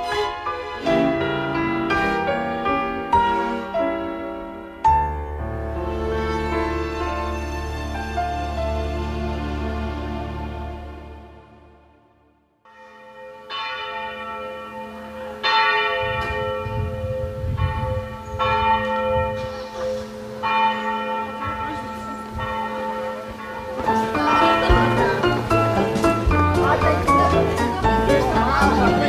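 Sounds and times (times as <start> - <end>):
church bells ringing: 0.0 - 10.4, 12.6 - 29.0.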